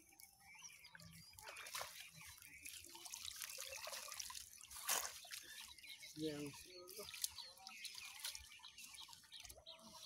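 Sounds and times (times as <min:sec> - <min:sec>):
water dripping and trickling: 0:00.0 - 0:10.0
wet plants rustling: 0:01.4 - 0:10.0.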